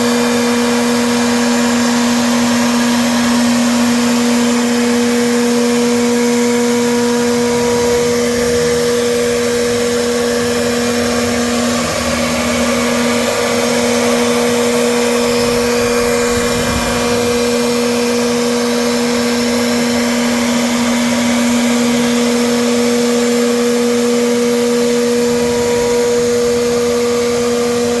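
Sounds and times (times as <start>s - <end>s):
cnc machine running: 0.0s - 28.0s.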